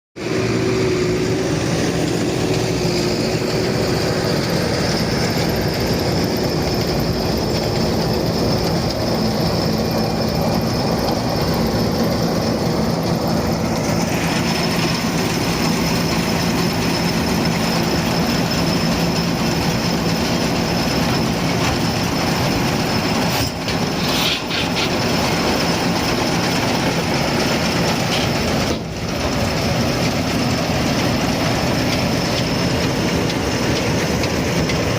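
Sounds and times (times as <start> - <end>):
constant high whine: 0.2 - 34.9
round baler working: 0.2 - 34.9
tractor running: 0.2 - 34.9.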